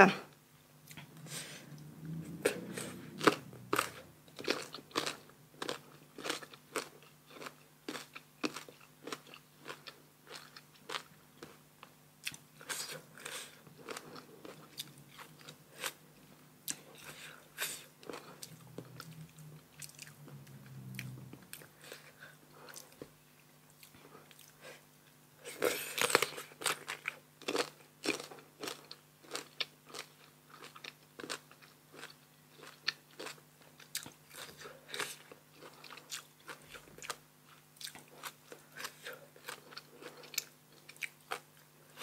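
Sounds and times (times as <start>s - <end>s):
crunching and chewing mango: 1.8s - 24.6s, 25.5s - 42.0s.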